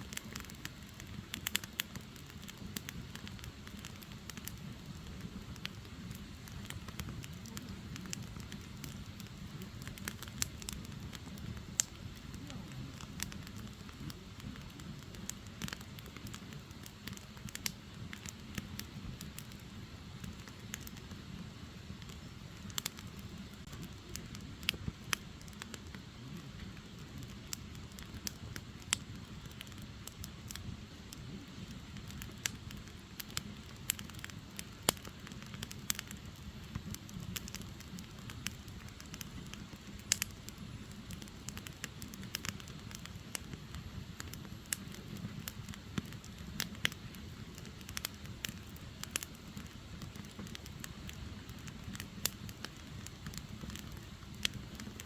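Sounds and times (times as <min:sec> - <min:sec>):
fire crackles and pops: 0:00.0 - 0:55.0
rush of flames: 0:00.0 - 0:55.0.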